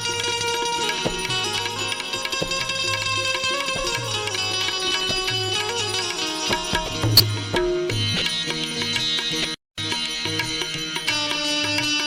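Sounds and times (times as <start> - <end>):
tabla drum strokes: 0.0 - 12.0.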